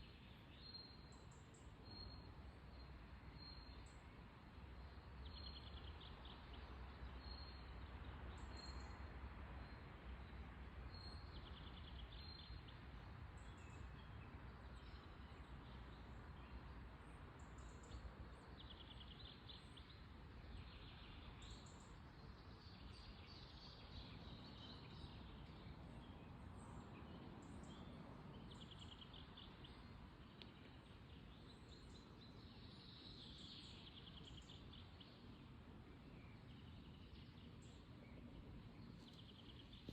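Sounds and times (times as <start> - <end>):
faint birdsong trills: 0.0 - 39.9.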